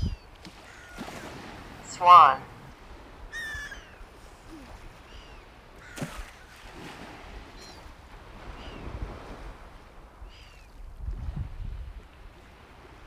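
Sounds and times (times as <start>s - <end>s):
waves lapping on shore: 0.0s - 13.0s.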